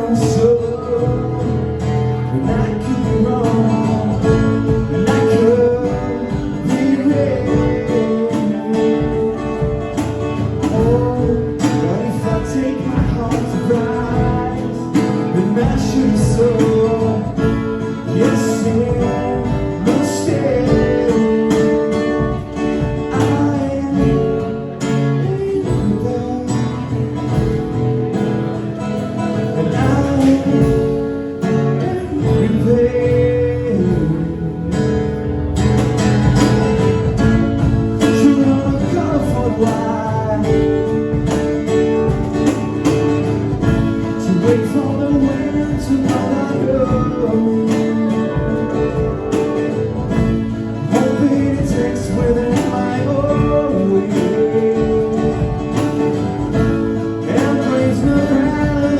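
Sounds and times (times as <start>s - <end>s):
acoustic guitars strummed and picked: 0.0s - 58.9s.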